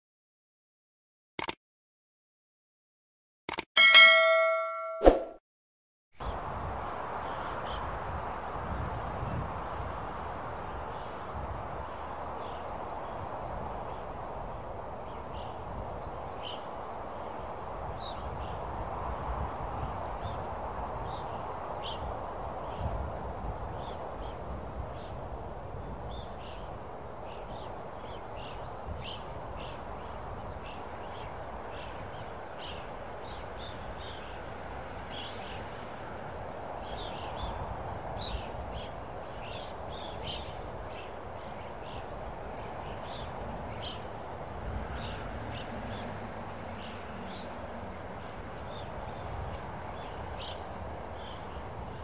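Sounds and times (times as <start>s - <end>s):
wind hiss and rumble: 6.2s - 52.0s.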